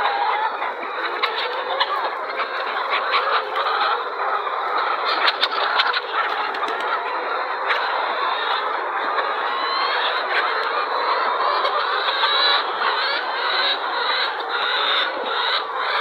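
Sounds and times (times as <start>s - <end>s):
din of poultry flock: 0.0s - 16.0s
short sharp poultry calls: 0.0s - 16.0s.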